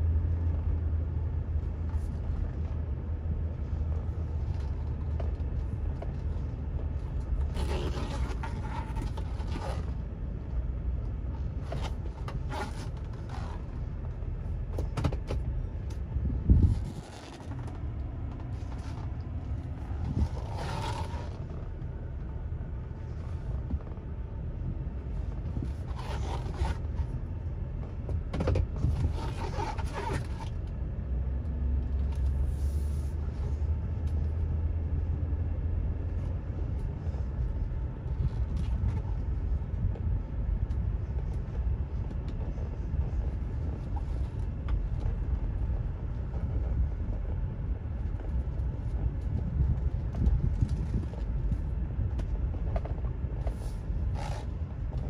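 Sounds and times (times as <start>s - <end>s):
engine and tyre rumble: 0.0s - 55.0s.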